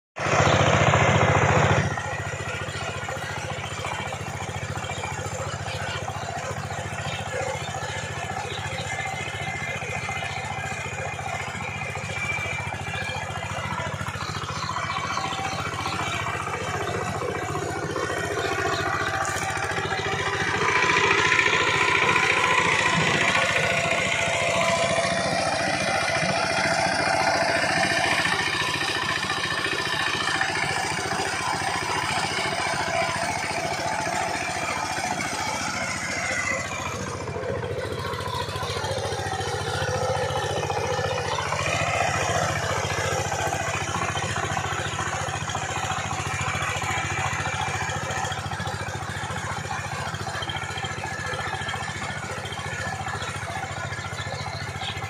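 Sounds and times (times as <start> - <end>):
diesel tiller engine chugging: 0.2 - 55.0.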